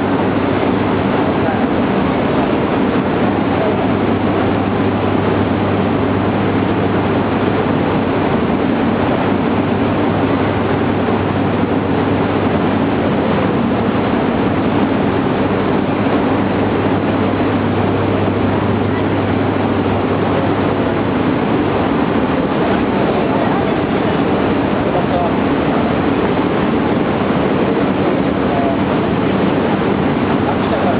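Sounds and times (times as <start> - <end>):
train humming at platform: 0.0 - 30.9.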